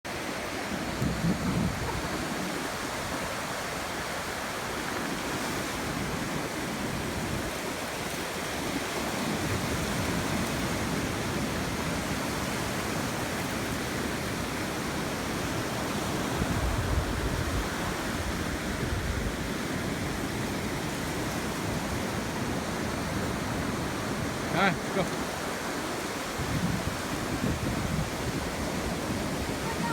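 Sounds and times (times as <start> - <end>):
surf breaking on beach: 0.1 - 29.9.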